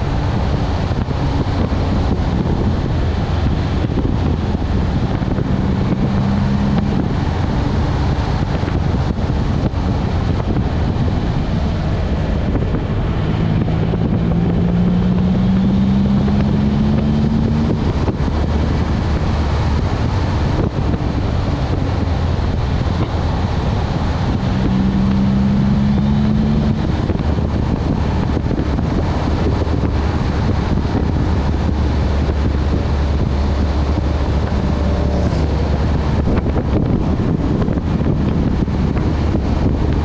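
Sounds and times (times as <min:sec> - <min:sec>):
car engine running: 0:00.0 - 0:40.0
wind noise on microphone: 0:00.0 - 0:40.0.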